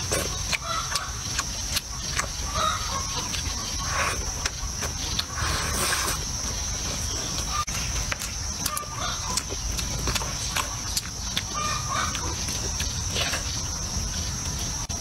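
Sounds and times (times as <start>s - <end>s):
chickens clucking: 0.0s - 14.9s
chewing: 0.0s - 15.0s.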